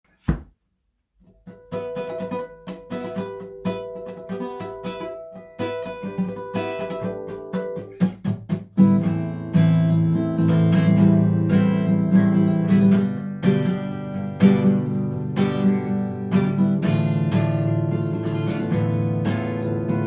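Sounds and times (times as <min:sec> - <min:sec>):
acoustic guitar playing: 0:01.2 - 0:20.0.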